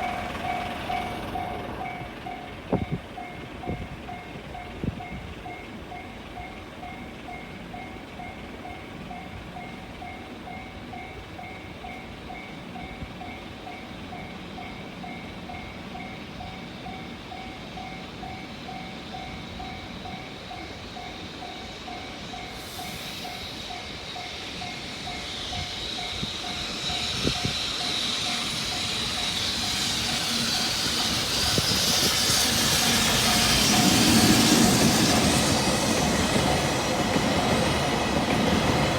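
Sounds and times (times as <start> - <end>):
approaching freight train: 0.0 - 38.9.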